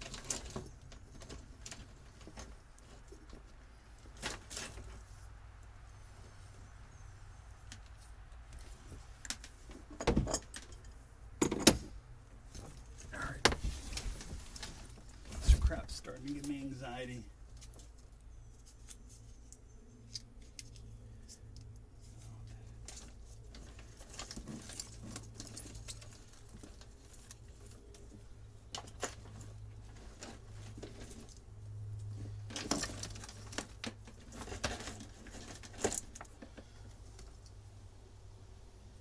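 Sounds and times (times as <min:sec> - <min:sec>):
wiring clicks and rattles: 0:00.0 - 0:05.0, 0:07.5 - 0:37.6.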